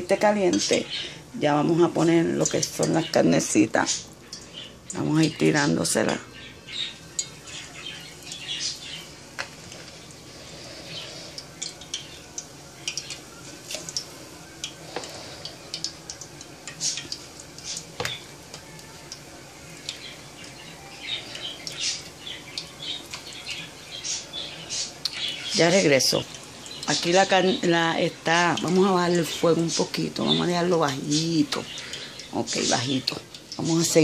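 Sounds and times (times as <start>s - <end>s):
chicken deep-frying in oil: 0.0s - 34.0s.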